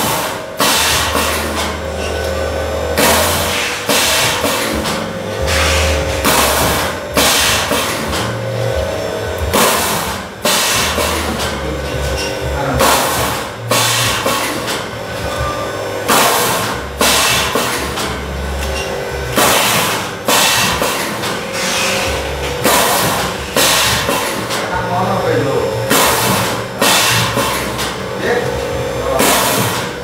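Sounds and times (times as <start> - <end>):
filling machine running: 0.0 - 30.0.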